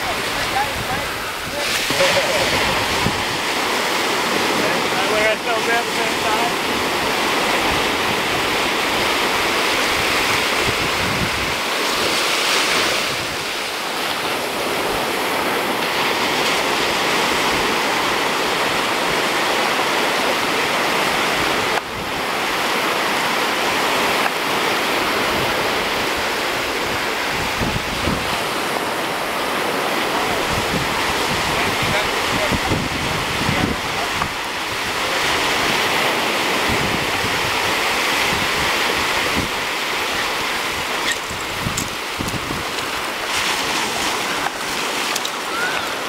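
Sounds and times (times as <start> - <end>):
surf breaking on beach: 0.0 - 46.0.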